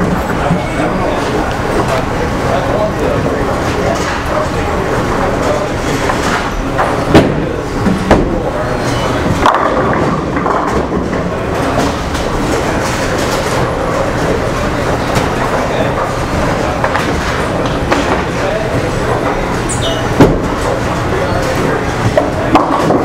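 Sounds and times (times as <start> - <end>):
background chatter: 0.0 - 23.0
bowling balls and pins clattering: 0.0 - 23.0
bowling balls rolling on lanes: 0.0 - 23.0.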